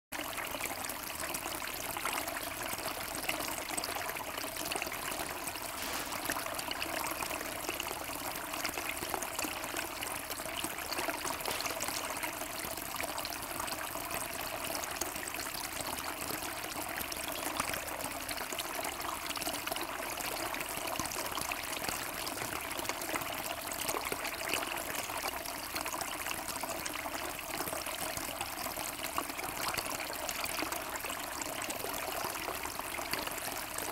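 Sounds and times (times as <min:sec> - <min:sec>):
fountain water bubbling and splashing: 0:00.2 - 0:33.9.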